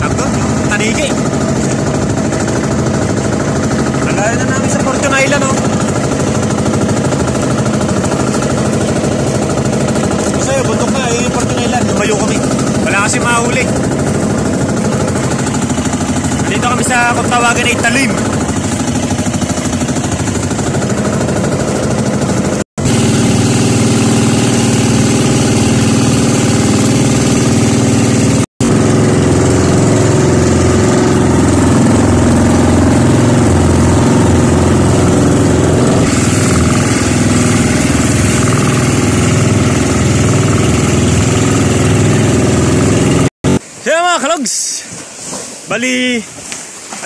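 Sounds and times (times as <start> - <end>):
boat engine running: 0.0 - 43.8.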